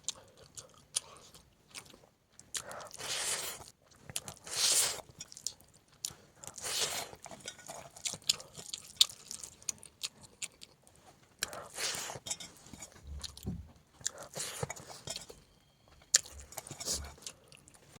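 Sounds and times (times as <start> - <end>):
crunchy chewing: 0.0 - 13.4, 14.0 - 18.0.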